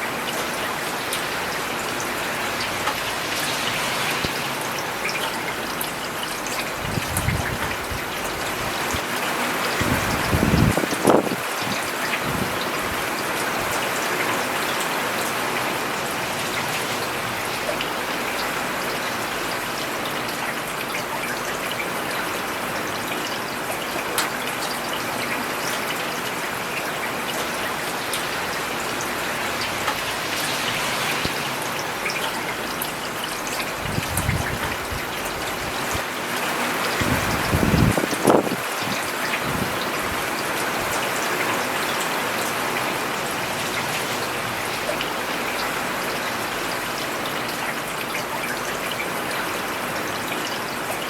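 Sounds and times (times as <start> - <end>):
rain falling on a road: 0.0 - 51.0.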